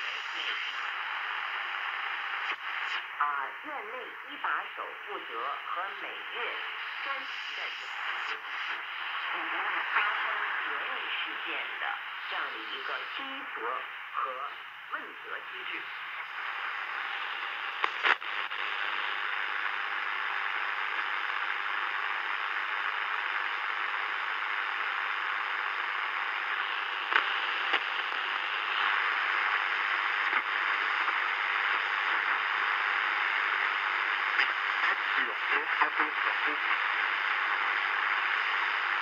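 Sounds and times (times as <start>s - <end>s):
radio crackles: 0.0s - 39.0s
radio static hiss: 0.0s - 39.0s.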